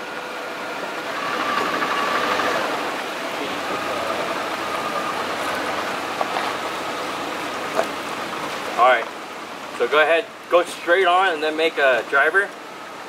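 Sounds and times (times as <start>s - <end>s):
truck engine running at low speed: 0.0s - 13.0s.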